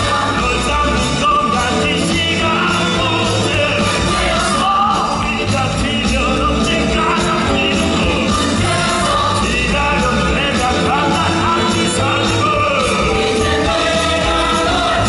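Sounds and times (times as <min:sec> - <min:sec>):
ensemble singing: 0:00.0 - 0:15.0
man singing: 0:00.0 - 0:15.0
musical accompaniment: 0:00.0 - 0:15.0.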